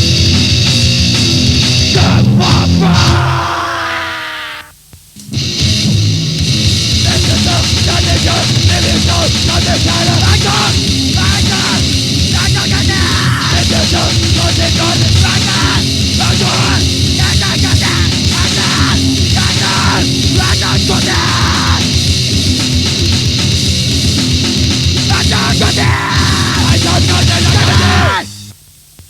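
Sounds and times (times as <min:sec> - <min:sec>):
fast dense drumming: 0:00.0 - 0:03.8, 0:05.6 - 0:28.3
heavily distorted guitar and bass: 0:00.0 - 0:28.6.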